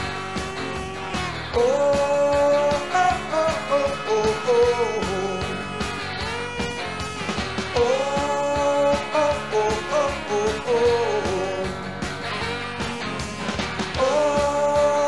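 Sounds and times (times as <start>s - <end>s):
rock band playing: 0.0s - 15.0s
sliding lead melody: 0.0s - 15.0s.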